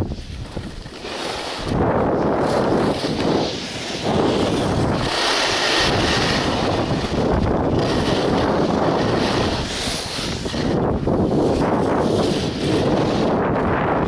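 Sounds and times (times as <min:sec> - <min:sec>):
skis sliding on snow: 0:00.0 - 0:14.0
wind buffeting microphone: 0:00.0 - 0:14.0.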